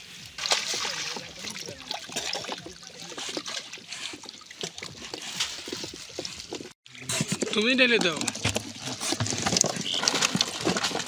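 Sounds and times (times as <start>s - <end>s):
water splashing and dripping: 0.0s - 6.8s, 8.5s - 11.0s.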